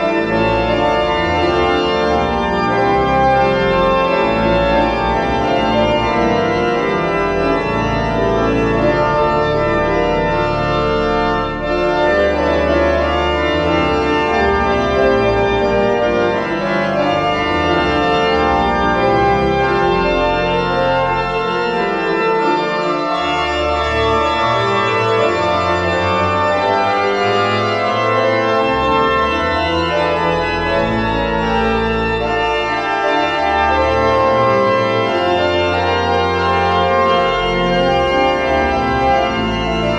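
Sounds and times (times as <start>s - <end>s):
pipe organ chords: 0.0s - 39.9s.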